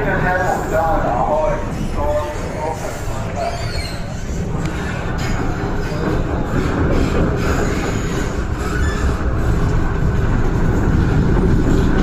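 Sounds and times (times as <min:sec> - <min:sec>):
train wheels on track: 0:00.0 - 0:12.0.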